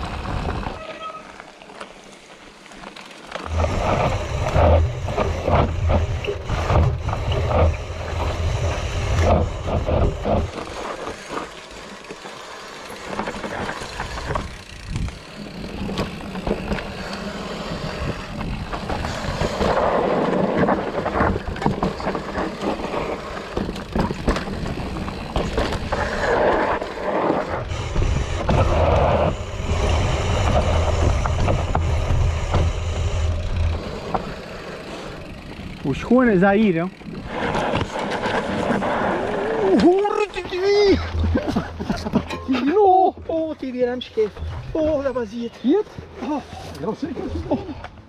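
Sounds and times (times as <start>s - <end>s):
bike knocking and rattling: 0.0s - 48.0s
bike tyre noise: 0.0s - 48.0s.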